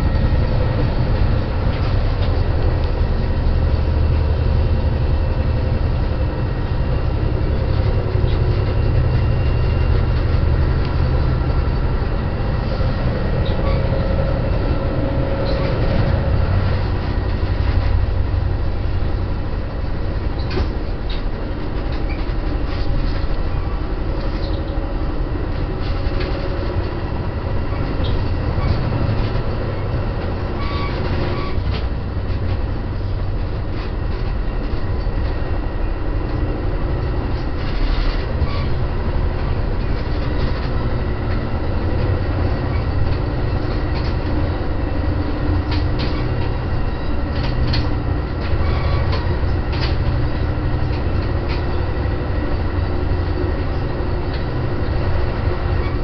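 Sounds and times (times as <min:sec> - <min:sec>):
train car rumbling on rails: 0:00.0 - 0:56.0.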